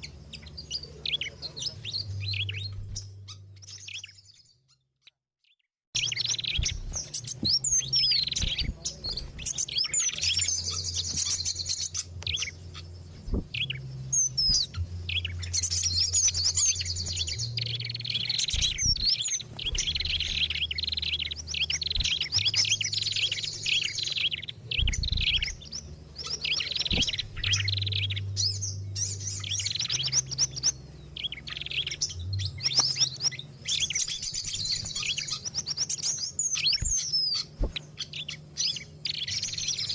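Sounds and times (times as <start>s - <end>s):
low hum: 0.0s - 4.6s, 6.0s - 39.9s
songbirds chirping and trilling: 0.0s - 39.9s.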